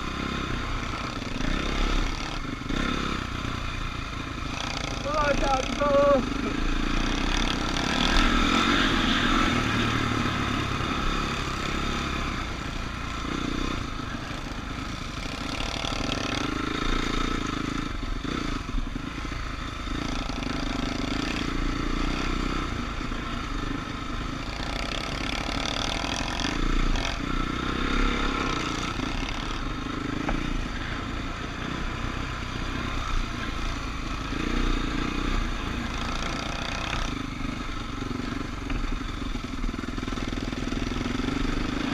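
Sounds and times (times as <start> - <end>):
dirt bike engines revving: 0.0 - 41.9.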